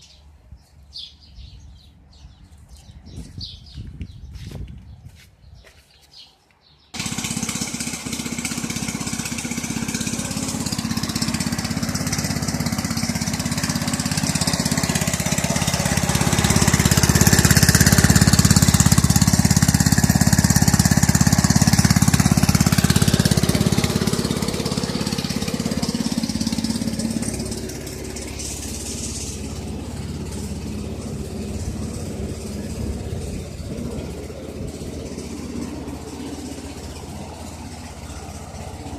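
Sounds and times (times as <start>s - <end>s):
small gasoline engine running: 7.0s - 38.9s.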